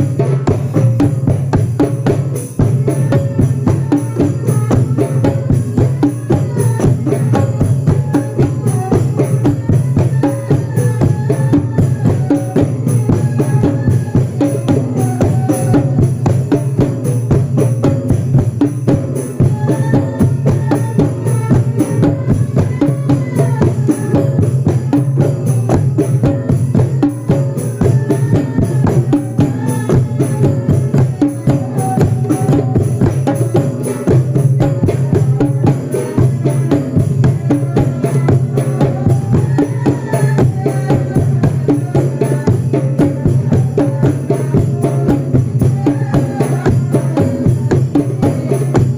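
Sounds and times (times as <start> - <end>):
fast drum beat: 0.0 - 48.9.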